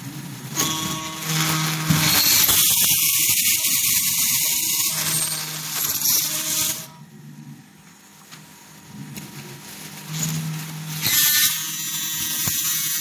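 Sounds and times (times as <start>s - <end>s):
machine hissing mechanical noise: 0.0s - 7.0s, 9.6s - 13.0s.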